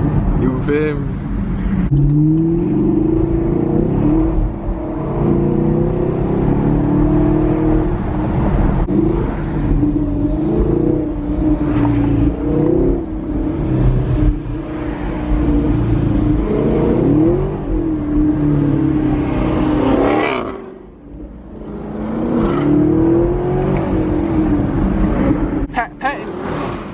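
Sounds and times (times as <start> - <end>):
car engine accelerating hard: 1.9 - 25.6.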